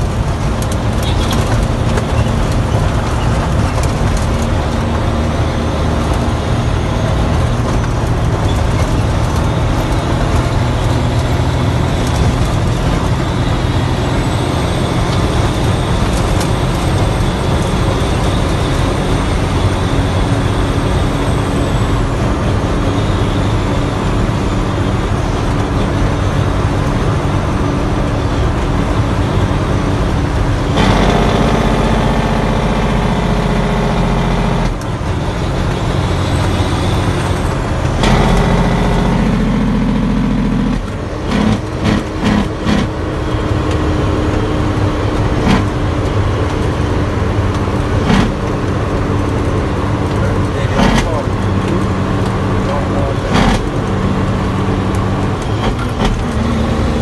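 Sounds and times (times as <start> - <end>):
road noise: 0.0 - 57.0
truck diesel engine: 0.0 - 57.0.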